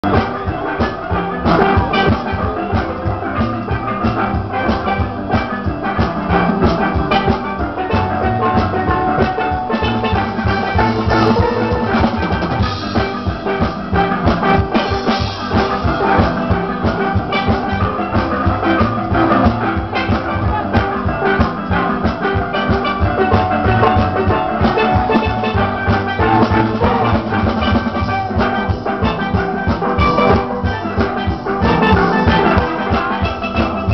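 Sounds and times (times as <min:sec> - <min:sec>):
drum kit beat: 0:00.0 - 0:33.9
steel pans playing: 0:00.0 - 0:33.9.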